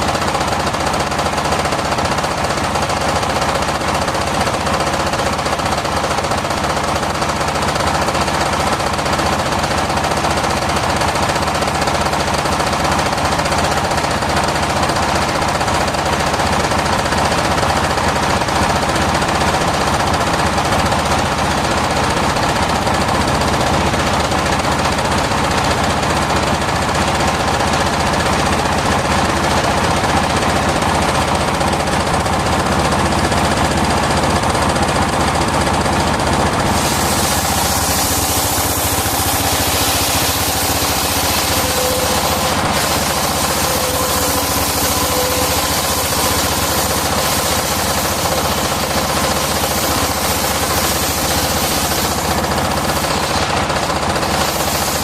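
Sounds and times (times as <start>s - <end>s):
sawmill running: 0.0s - 55.0s.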